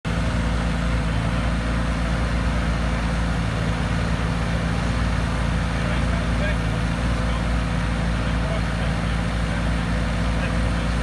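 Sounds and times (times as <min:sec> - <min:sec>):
excavator diesel engine running: 0:00.1 - 0:11.0.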